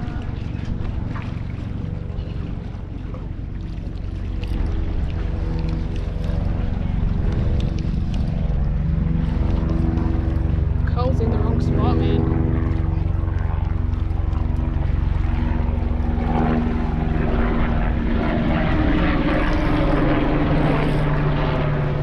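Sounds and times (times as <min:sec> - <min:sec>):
engine drone with low rumble: 0:00.0 - 0:22.0.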